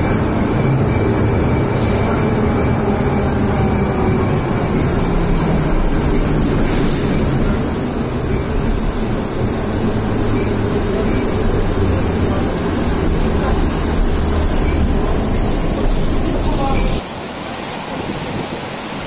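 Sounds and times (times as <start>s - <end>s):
rail vehicle rumbling: 0.0s - 19.0s.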